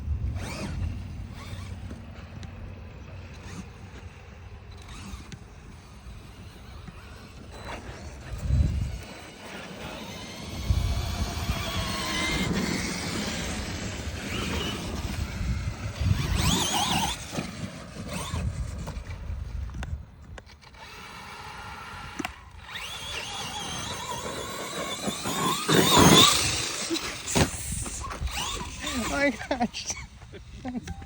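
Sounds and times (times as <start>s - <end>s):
trucks rumbling over dirt: 0.0s - 19.4s, 20.8s - 30.5s
rc truck motors whining: 0.0s - 31.0s.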